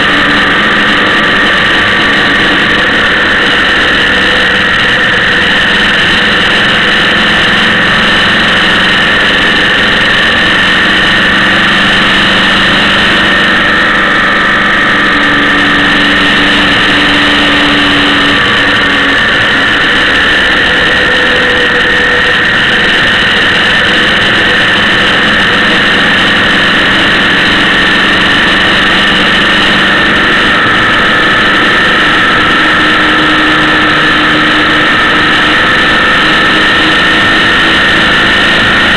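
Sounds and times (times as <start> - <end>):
vehicle engine drone: 0.0 - 38.9
wind rush: 0.0 - 38.9.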